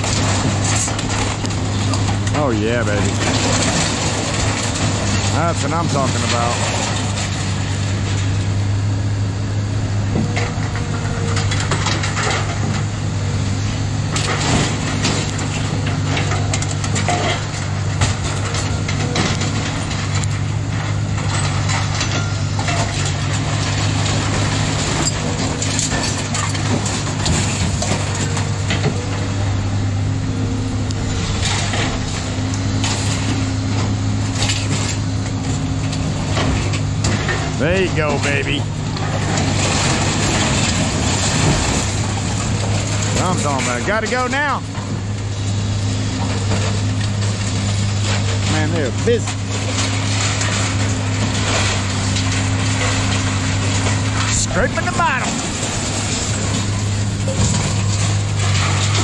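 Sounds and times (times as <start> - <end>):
scrap metal clanking and scraping: 0.0 - 8.6, 10.1 - 59.0
engine drone: 0.0 - 59.0.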